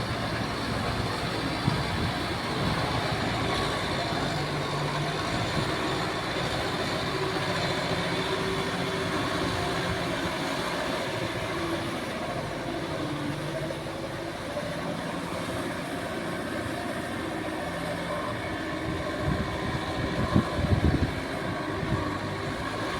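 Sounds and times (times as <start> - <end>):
tractor diesel engine running: 0.0 - 22.9.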